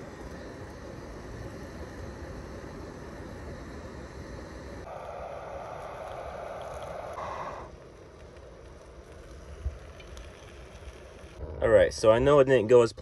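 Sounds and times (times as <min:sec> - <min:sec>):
camping stove burner hissing: 0:00.0 - 0:11.4.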